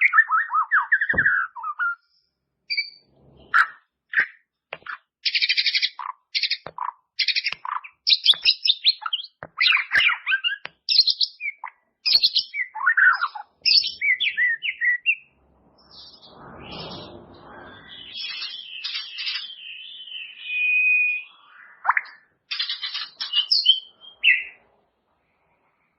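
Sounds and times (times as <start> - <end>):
bird singing trills and whistles: 0.0 - 24.6.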